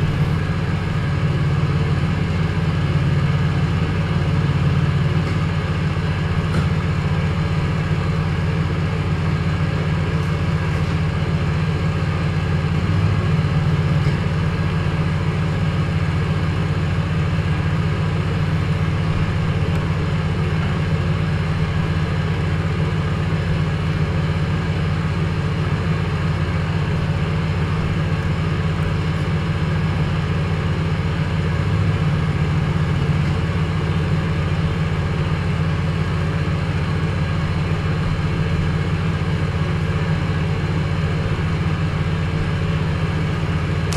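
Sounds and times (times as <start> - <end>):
steady low drone: 0.0 - 43.9.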